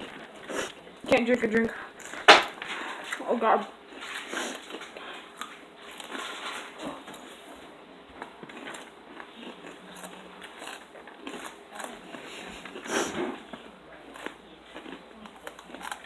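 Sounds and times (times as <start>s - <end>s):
cheese curls being chewed: 0.0s - 16.0s.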